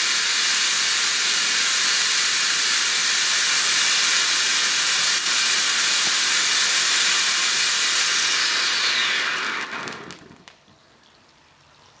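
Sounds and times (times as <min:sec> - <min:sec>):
firework fountain hissing: 0:00.0 - 0:10.7
firework crackles: 0:00.0 - 0:10.8.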